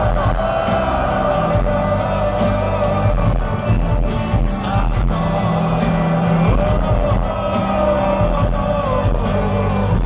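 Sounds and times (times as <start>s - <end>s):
bass and drums: 0.0s - 10.0s.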